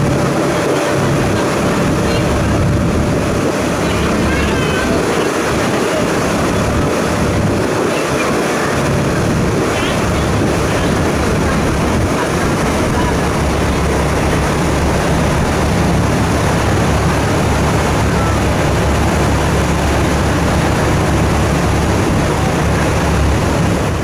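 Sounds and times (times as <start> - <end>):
churning wake water: 0.0 - 24.0
ferry engine droning: 0.0 - 24.0
wind rushing: 0.0 - 24.0.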